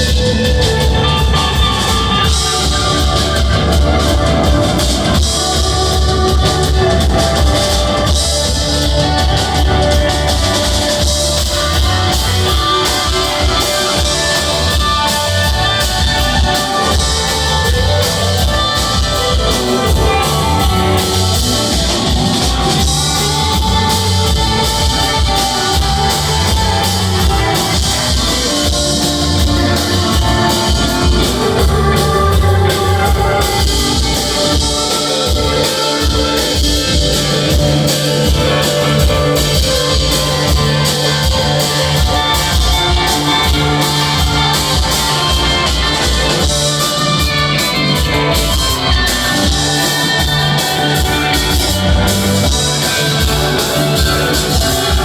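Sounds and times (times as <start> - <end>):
drum kit beat: 0.0 - 55.0
electric guitars: 0.0 - 55.0
rock band playing: 0.0 - 55.0.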